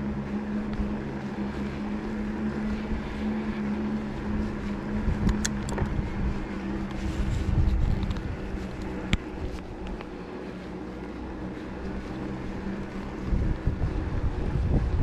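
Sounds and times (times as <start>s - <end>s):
electric bike motor hum: 0.0s - 15.0s
wind on microphone: 0.3s - 10.5s, 11.5s - 15.0s.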